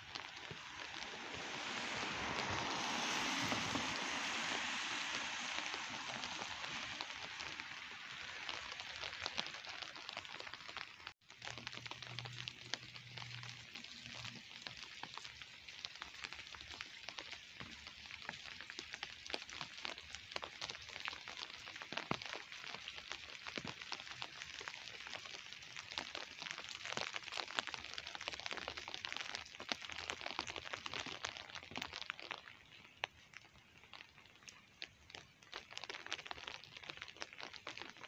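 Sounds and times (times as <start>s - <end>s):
rain falling: 0.0s - 38.0s
raindrop ticks: 0.0s - 38.0s.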